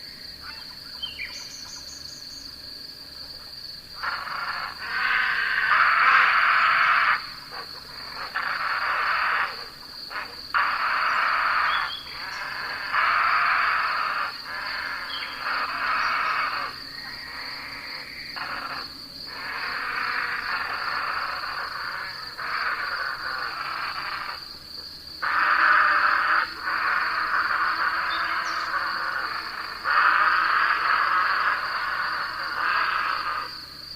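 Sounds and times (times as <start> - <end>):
insects high trill: 0.0 - 33.9
insects rasping: 0.0 - 33.9.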